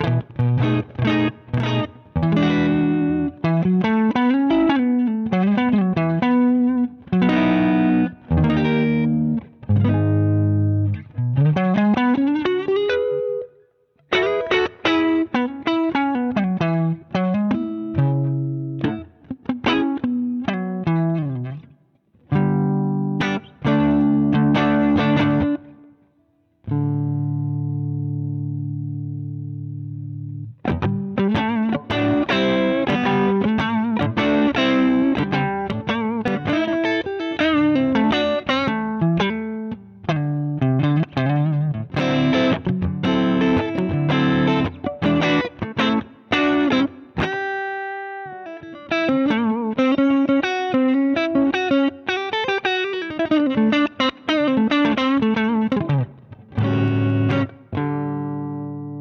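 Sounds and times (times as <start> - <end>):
overdriven electric guitar riffs: 0.0 - 59.0.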